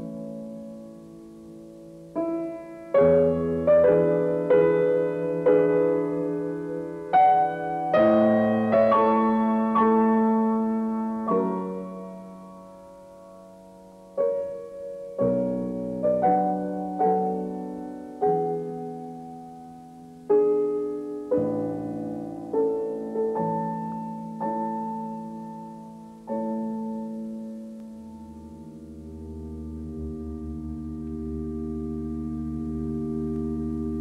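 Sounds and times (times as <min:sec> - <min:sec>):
slow classical piano piece: 0:00.0 - 0:34.0.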